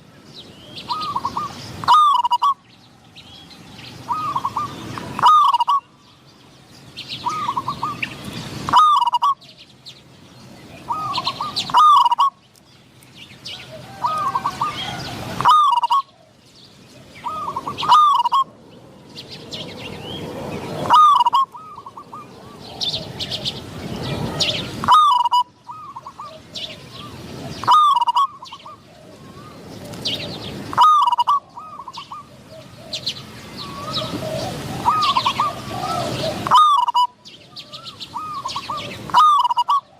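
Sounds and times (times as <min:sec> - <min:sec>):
small birds chirping: 0:00.0 - 0:39.9
doves cooing: 0:00.6 - 0:02.7, 0:04.1 - 0:05.9, 0:07.2 - 0:08.1, 0:08.7 - 0:09.6, 0:10.7 - 0:12.4, 0:13.5 - 0:18.6, 0:20.0 - 0:39.9.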